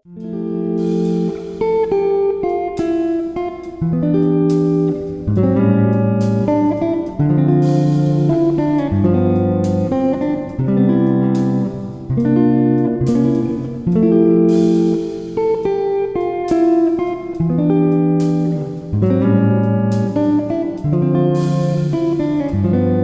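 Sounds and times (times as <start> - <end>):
strummed guitar music: 0.0 - 23.0.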